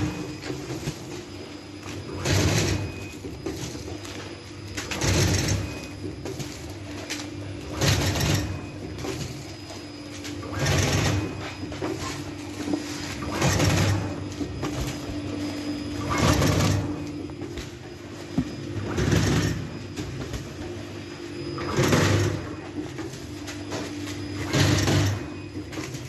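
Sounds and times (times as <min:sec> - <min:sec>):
packing machine humming: 0:00.0 - 0:26.0.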